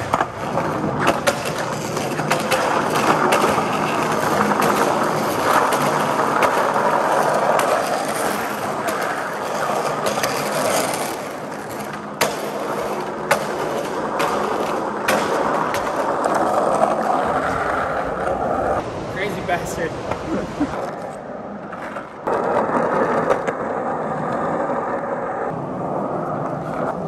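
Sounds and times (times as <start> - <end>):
sharp skateboard clicks: 0.0 - 18.8, 20.0 - 27.0
skateboard wheels rolling on concrete: 0.0 - 27.0.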